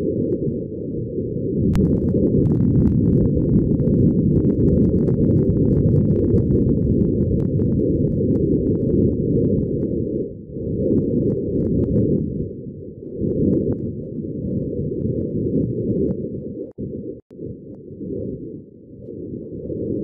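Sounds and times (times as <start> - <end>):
muffled low rumbling: 0.0 - 20.0.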